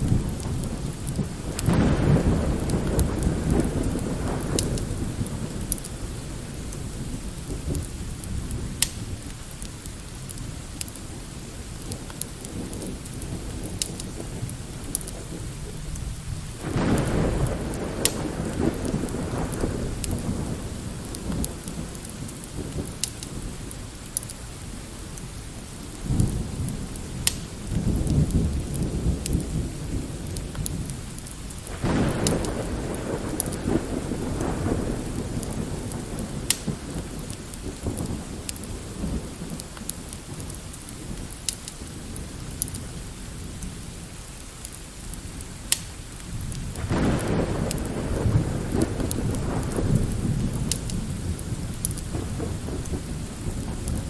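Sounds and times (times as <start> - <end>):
thunder rolling: 0.0 - 9.3, 11.8 - 24.0, 25.9 - 43.6, 46.2 - 54.0
fire crackling: 0.0 - 54.0
light rain: 0.0 - 54.0.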